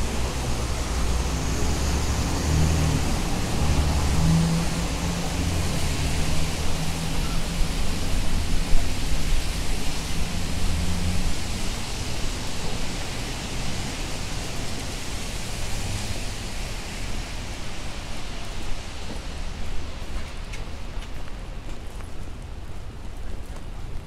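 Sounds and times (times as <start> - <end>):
rain hissing: 0.0 - 23.0
wet-road traffic: 0.0 - 24.0.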